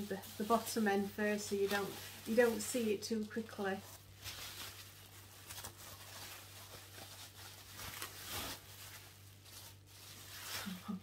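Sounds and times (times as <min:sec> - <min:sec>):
wrapping material crinkling: 0:00.0 - 0:11.0.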